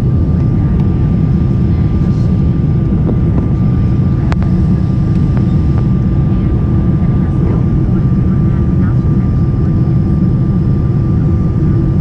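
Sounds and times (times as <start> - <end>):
faint steady whine: 0.0 - 12.0
jet engines roaring: 0.0 - 12.0.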